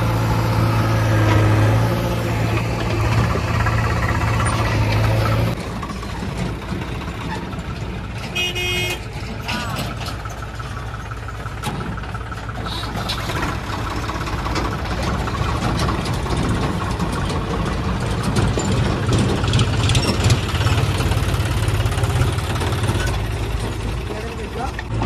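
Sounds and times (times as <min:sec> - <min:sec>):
tractor diesel engines rumbling: 0:00.0 - 0:25.0.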